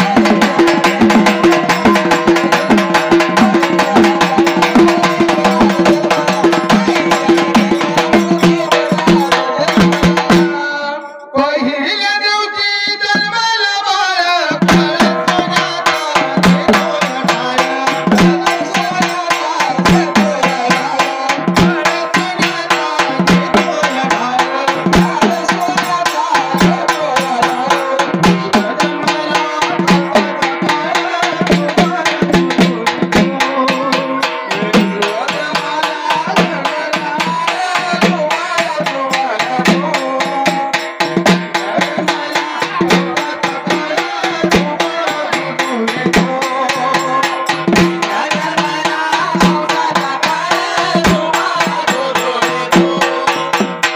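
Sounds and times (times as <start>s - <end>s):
fast hand-drum rhythm: 0.0s - 10.8s, 13.0s - 53.9s.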